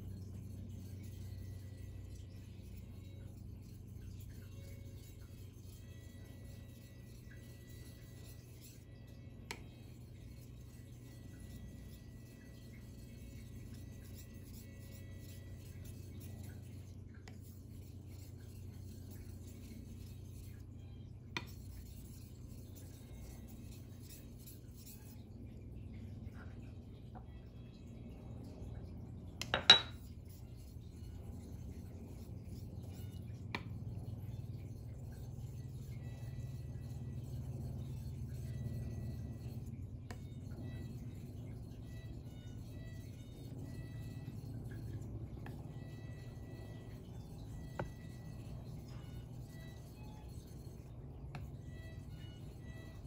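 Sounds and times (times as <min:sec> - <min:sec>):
low steady hum: 0:00.0 - 0:53.0
blade scraping on sharpening stone: 0:00.4 - 0:20.7, 0:21.4 - 0:25.2, 0:29.4 - 0:53.0.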